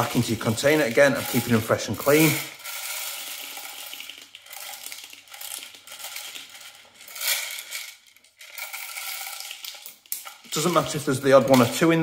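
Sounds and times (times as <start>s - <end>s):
plastic pellets pouring and rattling: 0.0s - 12.0s.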